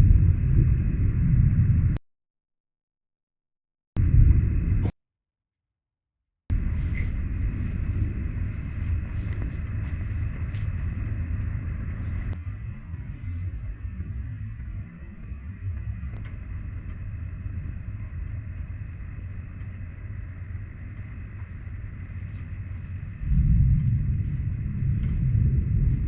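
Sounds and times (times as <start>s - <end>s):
thunder rumbling: 0.0s - 2.0s, 4.0s - 4.9s, 6.5s - 14.8s, 15.8s - 26.0s.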